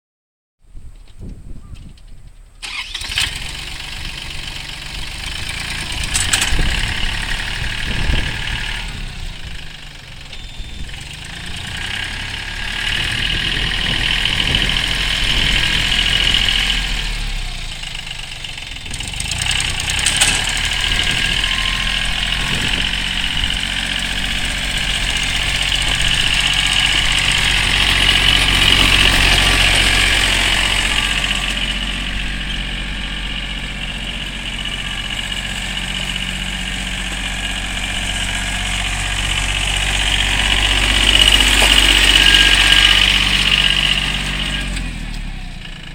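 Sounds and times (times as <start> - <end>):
tractor diesel engine running: 1.8 - 45.9.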